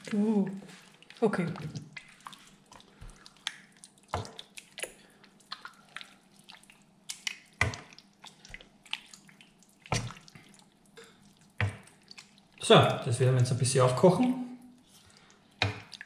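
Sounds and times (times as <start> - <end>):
spoon stirring thick salsa: 0.0 - 13.0, 14.8 - 16.0
wet squelches and plops: 0.0 - 13.4, 14.0 - 16.0.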